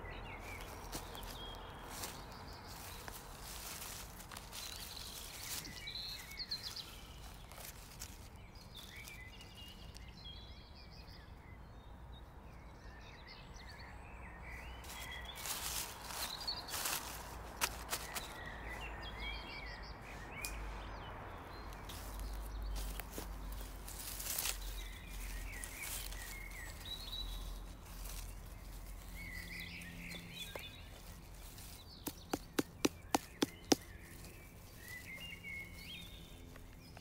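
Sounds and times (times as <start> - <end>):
small birds chirping: 0.0 - 37.0
dry leaves rustling: 0.1 - 10.3, 14.5 - 37.0.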